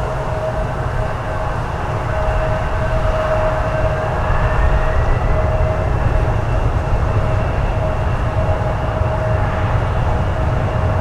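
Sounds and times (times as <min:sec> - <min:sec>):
jet engine whine: 0:00.0 - 0:11.0
jet engines roaring at takeoff: 0:00.0 - 0:11.0.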